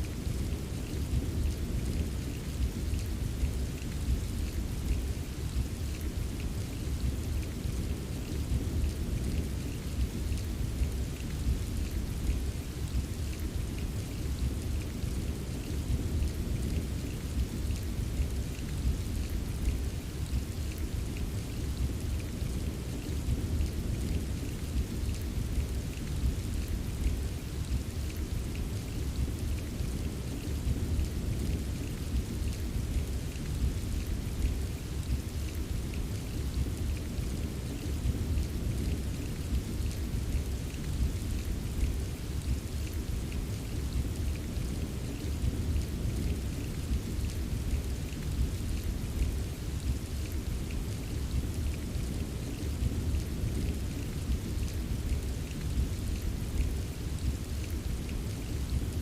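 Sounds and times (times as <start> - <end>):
rain drops tapping: 0.0 - 59.0.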